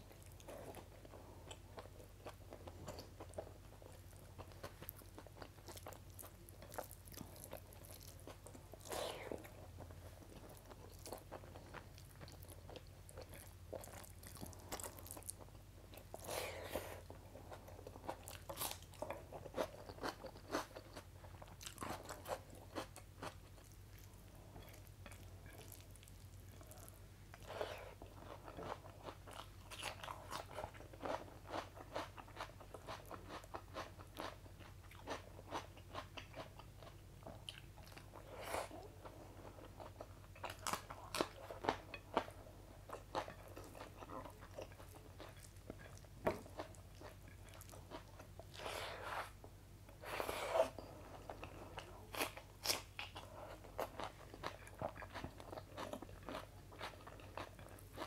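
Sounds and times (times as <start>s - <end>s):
chewing and crunching: 0.0s - 58.0s.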